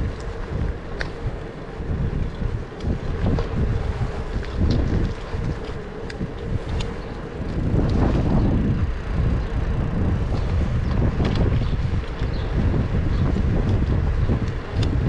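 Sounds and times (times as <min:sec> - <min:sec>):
faint ticks: 0:00.0 - 0:15.0
wind rushing over microphone: 0:00.0 - 0:15.0.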